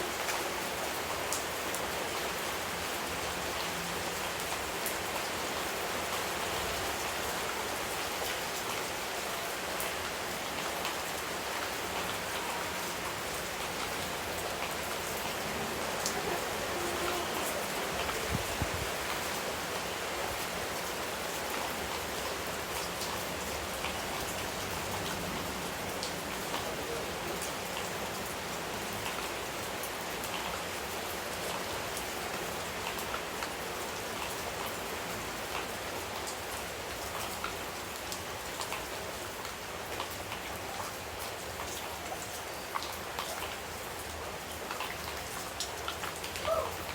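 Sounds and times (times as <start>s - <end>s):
raindrops ticking on a surface: 0.0s - 46.9s
steady rain: 0.0s - 46.9s.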